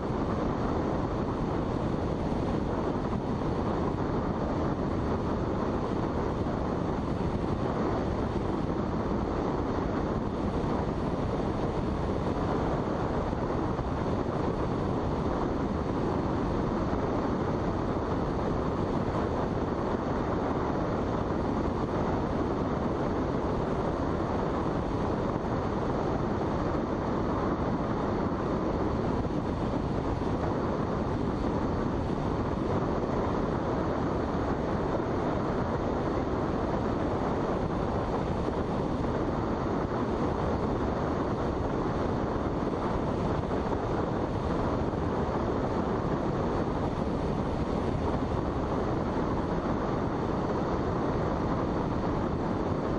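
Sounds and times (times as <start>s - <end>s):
rushing airflow in cockpit: 0.0s - 52.9s.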